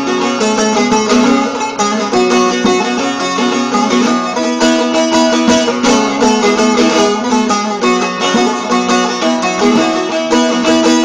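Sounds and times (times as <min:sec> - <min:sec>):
instrumental accompaniment: 0:00.0 - 0:11.0
plucked string instrument melody: 0:00.0 - 0:11.0.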